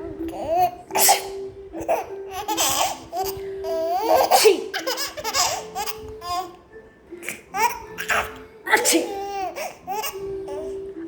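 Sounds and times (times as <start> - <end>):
baby laughing: 0.2 - 6.6, 7.2 - 10.8.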